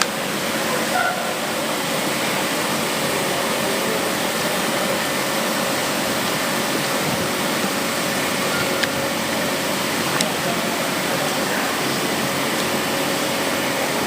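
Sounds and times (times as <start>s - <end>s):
steady rushing noise: 1.4s - 14.0s.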